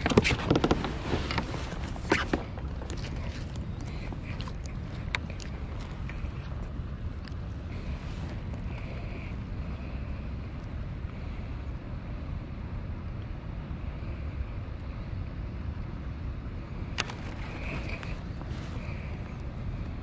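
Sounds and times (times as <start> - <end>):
faint whir: 0.0 - 20.0
wind on microphone: 0.0 - 20.0.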